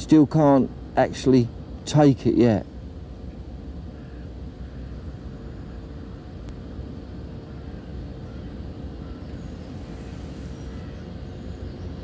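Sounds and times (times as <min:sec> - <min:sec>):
faint constant hum: 0:00.0 - 0:12.0
low outdoor rumble: 0:00.0 - 0:12.0.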